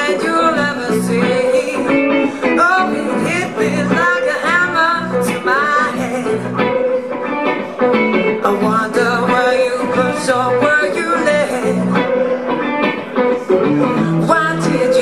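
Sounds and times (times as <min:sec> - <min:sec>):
woman singing into microphone: 0:00.0 - 0:07.3, 0:08.2 - 0:15.0
guitar: 0:00.0 - 0:15.0.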